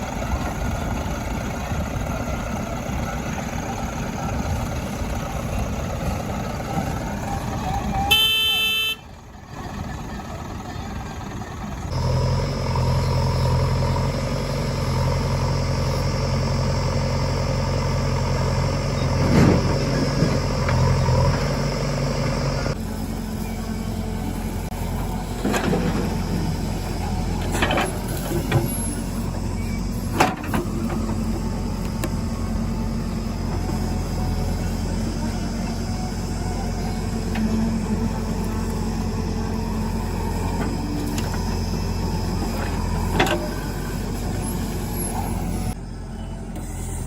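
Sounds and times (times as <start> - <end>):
diesel engines running: 0.0 - 47.0.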